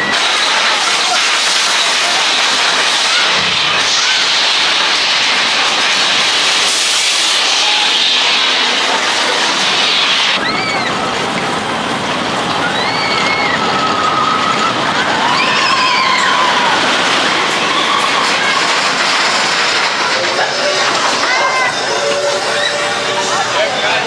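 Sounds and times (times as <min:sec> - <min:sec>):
high squeals: 0:00.0 - 0:11.1, 0:12.6 - 0:24.0
roller coaster rushing on track: 0:00.0 - 0:24.0.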